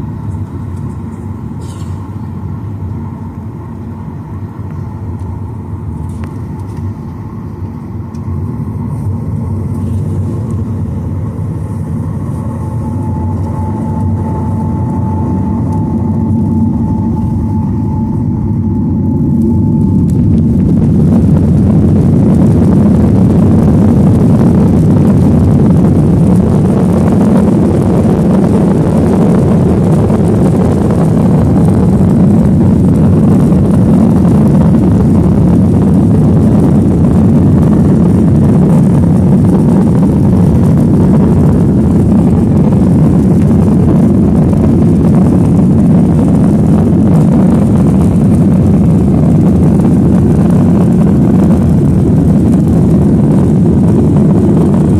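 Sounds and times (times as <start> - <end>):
jet engine roar in cabin: 0.0 - 54.9.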